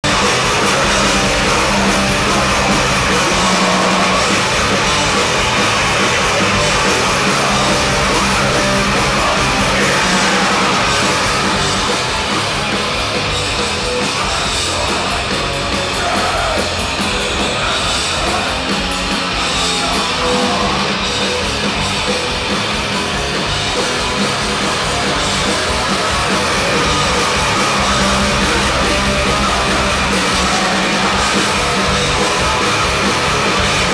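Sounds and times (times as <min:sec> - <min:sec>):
shouted vocals: 0:00.0 - 0:12.3, 0:13.9 - 0:21.0, 0:25.0 - 0:33.9
live punk band playing: 0:00.0 - 0:33.9.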